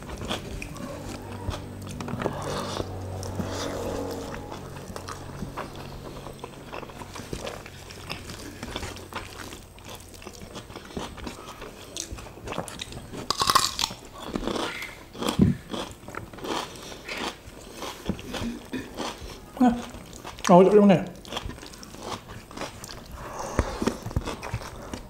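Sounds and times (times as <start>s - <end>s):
people chewing: 0.0s - 25.0s.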